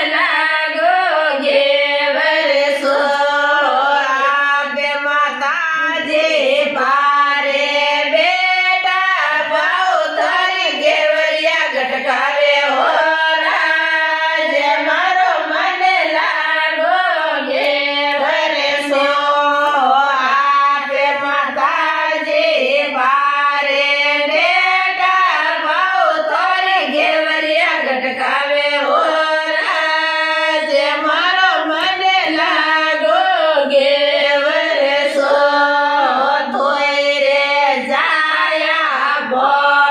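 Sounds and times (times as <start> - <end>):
women singing a folk song: 0.0 - 39.9.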